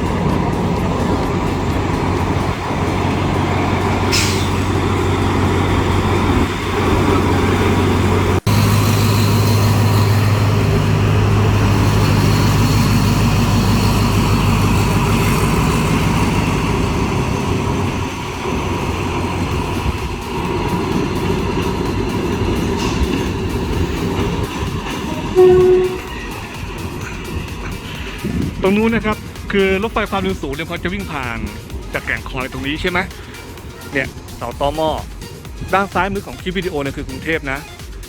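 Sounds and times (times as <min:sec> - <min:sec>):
diesel locomotive engine hum: 0:00.0 - 0:38.0.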